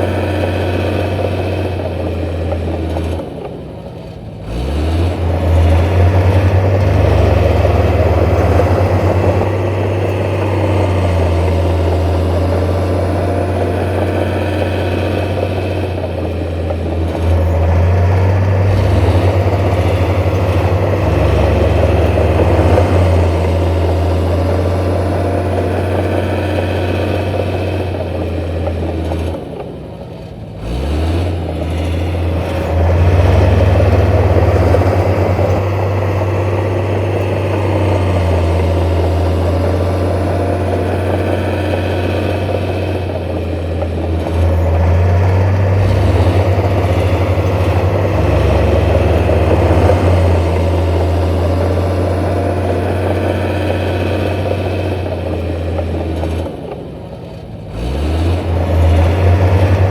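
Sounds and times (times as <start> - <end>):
diesel construction machinery running: 0.0 - 59.9.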